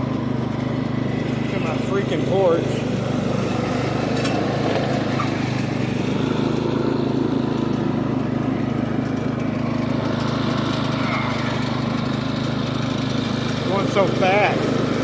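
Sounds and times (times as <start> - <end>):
riding lawn mower engine: 0.0 - 15.0.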